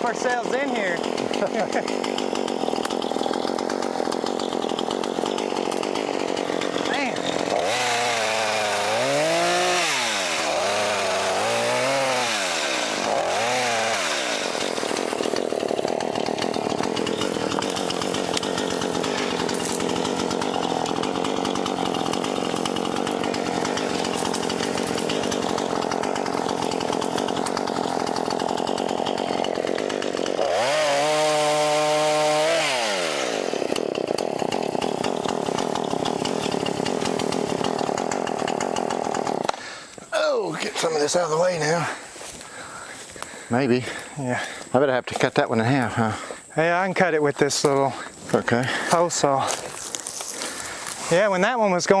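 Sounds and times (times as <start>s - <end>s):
chainsaw cutting brush: 0.0s - 52.0s.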